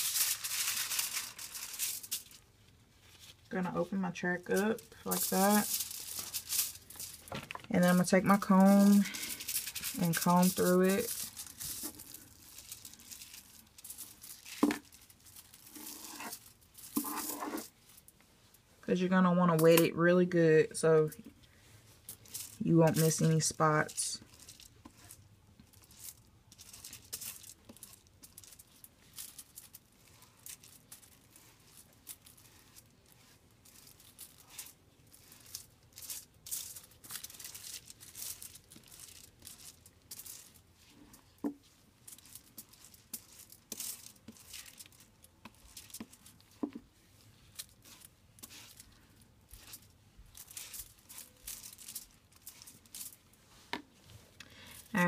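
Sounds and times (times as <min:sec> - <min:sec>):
aluminium foil crinkling: 0:00.0 - 0:03.5, 0:04.1 - 0:18.7, 0:21.0 - 0:55.0
scratchy brush strokes: 0:00.0 - 0:18.9, 0:21.2 - 0:55.0.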